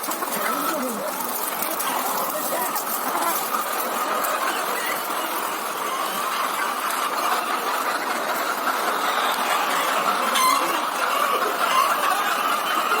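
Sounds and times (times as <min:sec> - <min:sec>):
hens clucking and squawking: 0:00.0 - 0:13.0.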